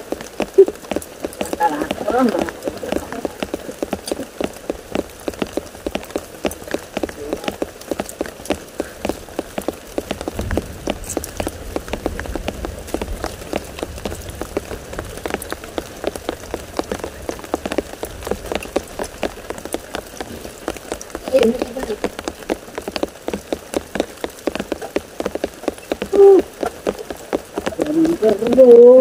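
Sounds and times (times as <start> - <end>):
raindrops ticking on roof: 0.0 - 29.0.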